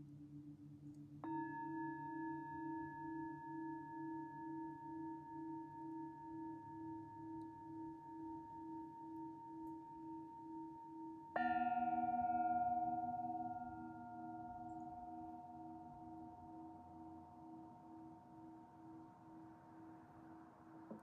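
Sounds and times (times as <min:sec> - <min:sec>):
singing bowl ringing: 0:01.2 - 0:21.0.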